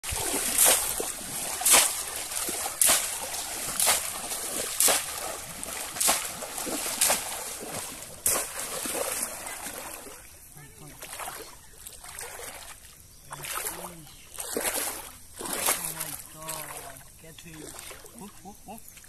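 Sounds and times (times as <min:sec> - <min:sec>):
pond water splashing: 0:00.0 - 0:19.0.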